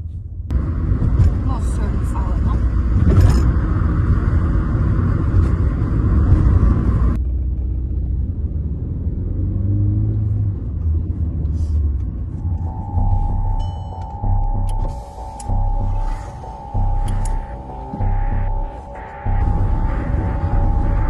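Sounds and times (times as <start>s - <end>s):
car engine rumble: 0.0s - 21.0s.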